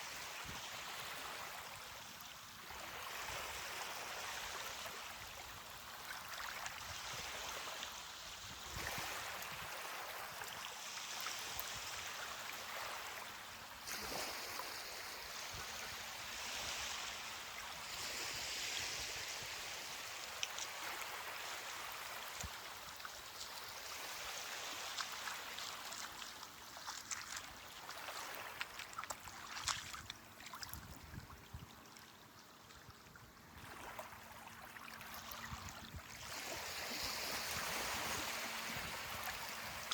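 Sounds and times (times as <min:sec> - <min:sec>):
ocean waves on beach: 0:00.0 - 0:30.9, 0:33.4 - 0:39.9.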